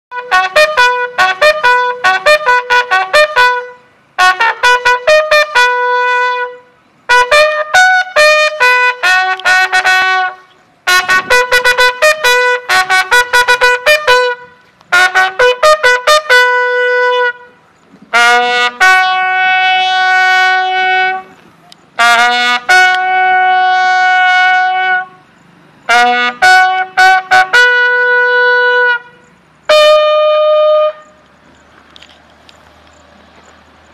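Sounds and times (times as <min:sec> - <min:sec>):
bugle call: 0:00.1 - 0:31.3.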